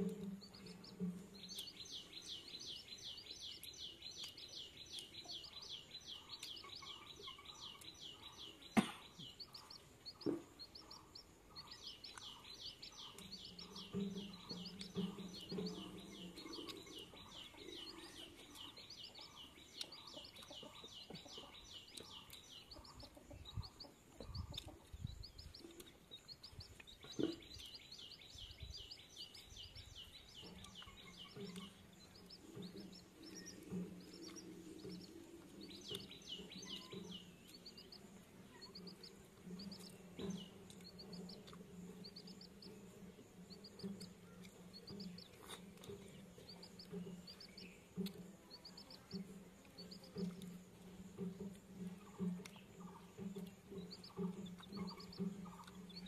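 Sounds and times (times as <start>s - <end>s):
bird high chirps: 0.4s - 42.8s, 52.0s - 56.0s.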